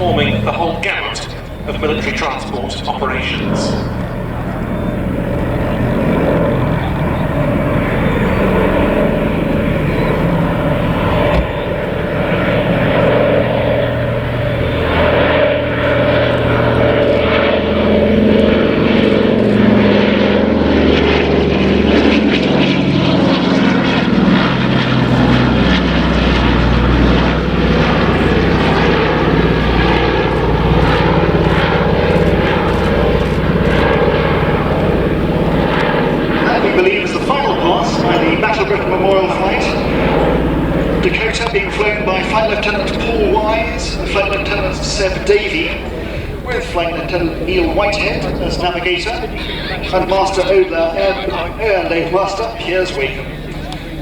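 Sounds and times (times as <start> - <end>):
propeller aircraft engines droning: 0.0 - 54.0.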